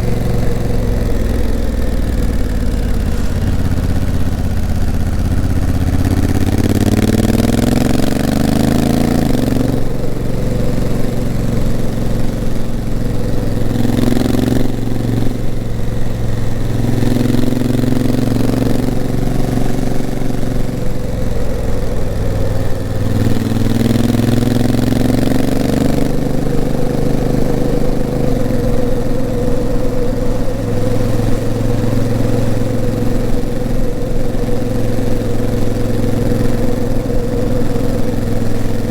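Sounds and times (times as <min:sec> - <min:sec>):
gearbox shifting up: 0:00.0 - 0:38.9
motorcycle engine running: 0:00.0 - 0:38.9.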